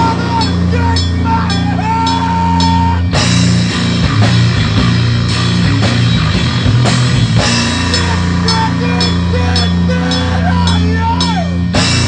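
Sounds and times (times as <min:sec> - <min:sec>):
rock band playing: 0:00.0 - 0:12.0.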